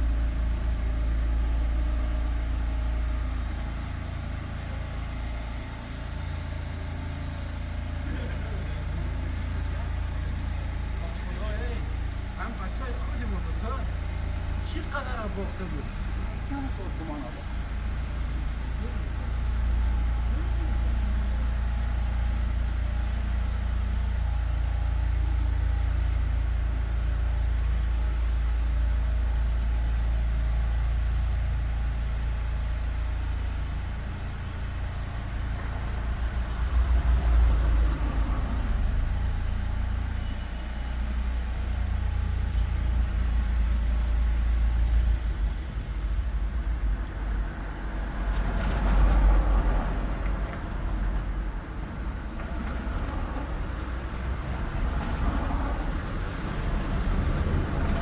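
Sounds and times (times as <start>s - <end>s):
low engine rumble: 0.0s - 58.0s
vehicles passing: 2.2s - 26.6s, 31.7s - 58.0s.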